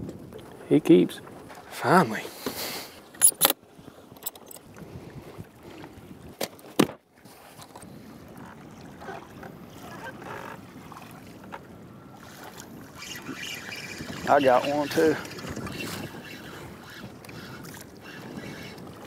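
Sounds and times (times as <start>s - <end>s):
choppy water: 0.0s - 19.0s
wind: 0.0s - 19.0s.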